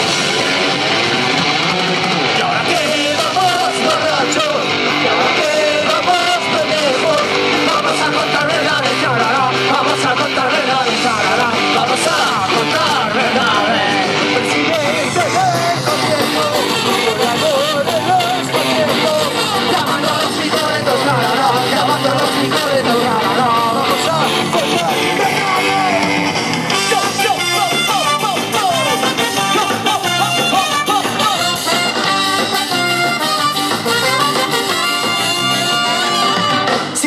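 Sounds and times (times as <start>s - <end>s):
live punk rock band: 0.0s - 37.0s.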